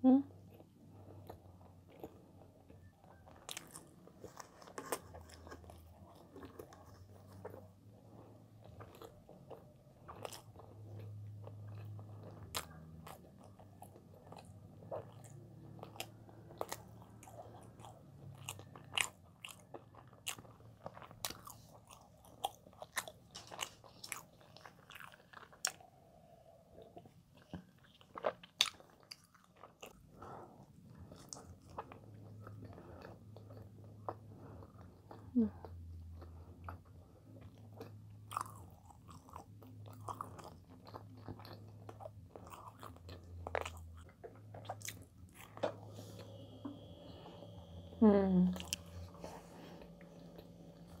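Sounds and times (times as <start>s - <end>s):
person chewing bread: 0.3s - 51.0s.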